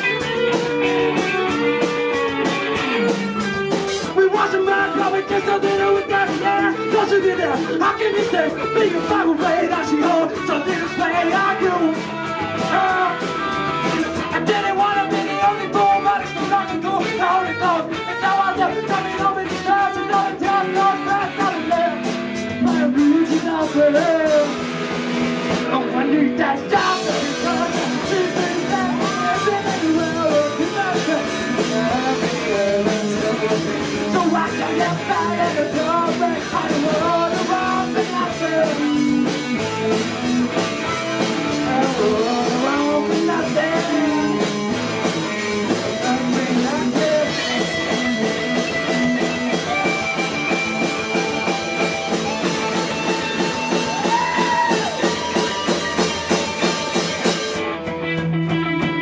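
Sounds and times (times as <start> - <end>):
drum beat: 0.0 - 26.0, 26.7 - 59.0
electric guitars: 0.0 - 59.0.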